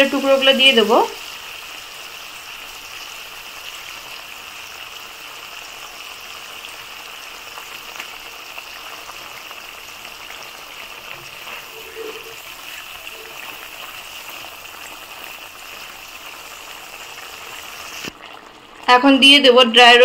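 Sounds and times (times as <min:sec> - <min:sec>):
sauce sizzling in oil: 0:00.0 - 0:20.0.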